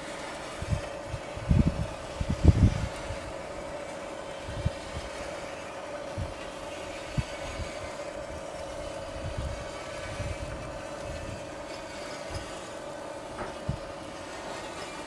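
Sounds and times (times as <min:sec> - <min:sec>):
bending machine motor hum: 0:00.0 - 0:15.0
rollers knocking and clunking: 0:00.0 - 0:15.0.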